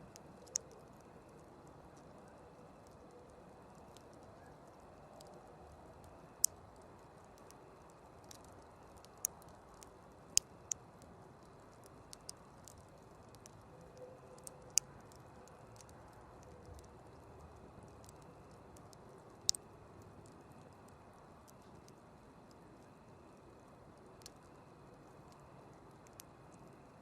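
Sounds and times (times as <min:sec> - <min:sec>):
low steady hiss: 0:00.0 - 0:27.0
campfire crackling: 0:00.1 - 0:26.9.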